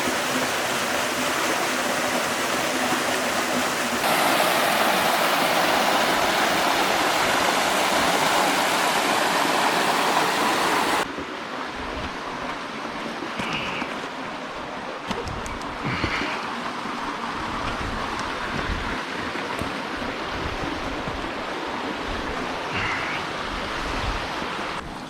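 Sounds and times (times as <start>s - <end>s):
waterfall rushing: 0.0s - 11.1s, 15.6s - 24.8s.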